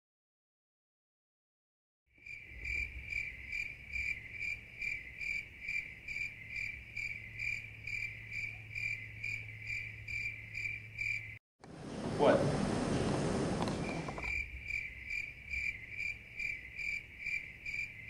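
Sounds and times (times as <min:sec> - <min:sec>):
crickets chirping: 0:02.1 - 0:11.4, 0:12.6 - 0:18.0.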